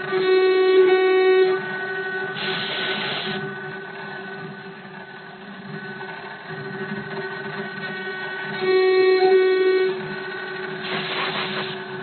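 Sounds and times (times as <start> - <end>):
engraving machine spindle whining: 0.0 - 12.0.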